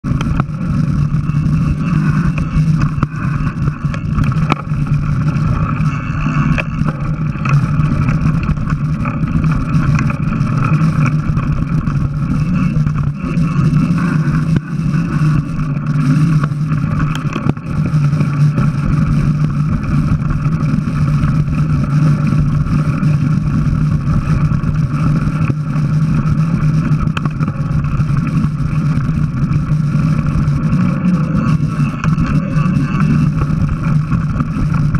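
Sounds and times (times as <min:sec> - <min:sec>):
mountain bike rolling on dirt: 0:00.0 - 0:34.9.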